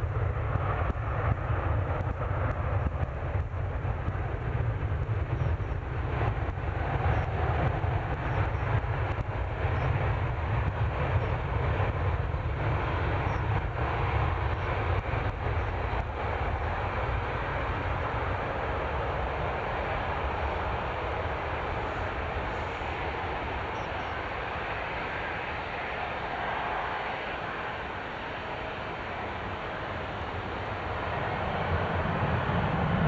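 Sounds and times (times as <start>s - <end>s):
jet engines rumble and hiss: 0.0s - 33.0s.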